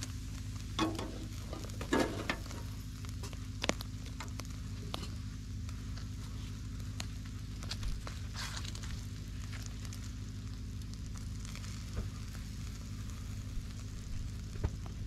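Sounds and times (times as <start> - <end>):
coals crackling and popping: 0.0 - 15.0
meat sizzling over charcoal: 0.0 - 15.0
steady low rumble: 0.0 - 15.0.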